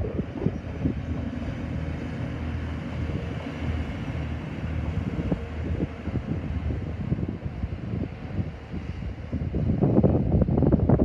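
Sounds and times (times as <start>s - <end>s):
train engine and wheel rumble: 0.0s - 11.0s.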